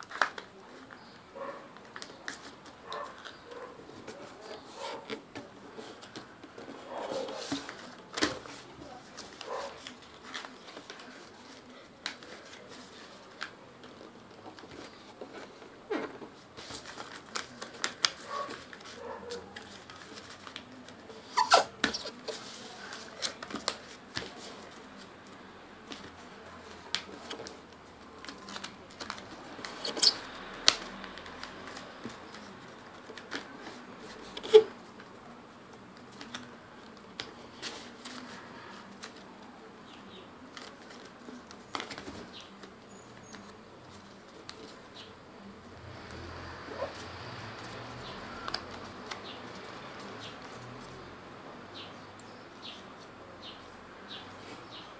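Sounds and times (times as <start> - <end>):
paper rustling and crinkling: 0.0 - 51.1.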